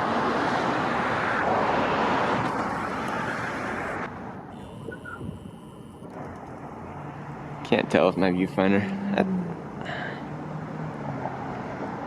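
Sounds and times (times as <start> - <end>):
car passing on street: 0.0 - 12.0.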